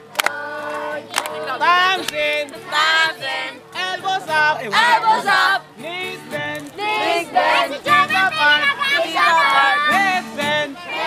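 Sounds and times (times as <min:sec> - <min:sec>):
group singing chorus: 0:00.0 - 0:11.0.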